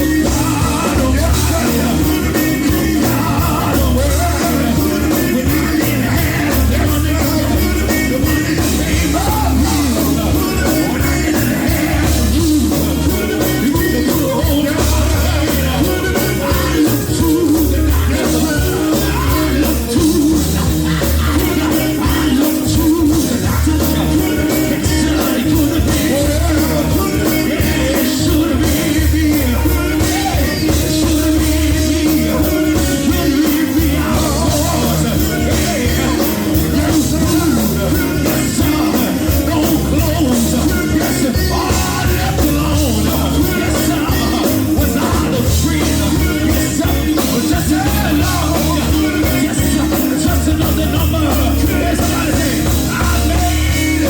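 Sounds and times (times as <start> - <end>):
gospel band playing: 0.0 - 54.0
voices singing: 0.0 - 54.0.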